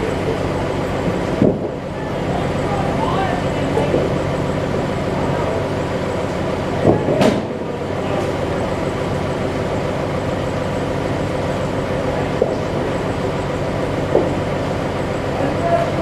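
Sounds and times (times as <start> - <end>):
sawmill machinery humming and rattling: 0.0 - 16.0.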